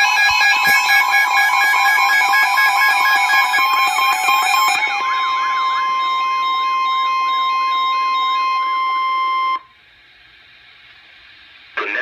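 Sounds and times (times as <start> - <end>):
warbling siren: 0.0 - 9.6
steady attention tone: 0.0 - 9.8.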